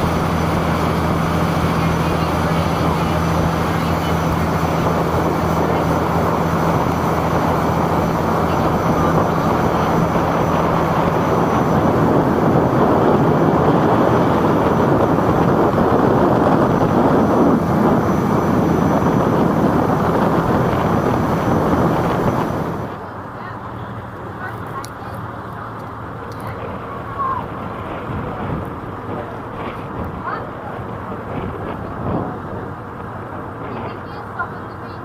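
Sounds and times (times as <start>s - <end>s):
rushing water and wind: 0.0s - 24.6s, 25.2s - 35.0s
boat engine humming: 0.0s - 35.0s.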